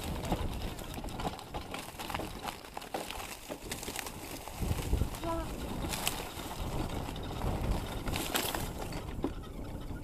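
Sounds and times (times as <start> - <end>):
dry grass rustling and snapping: 0.0 - 9.1
electric dirt bike rumble: 0.0 - 10.0.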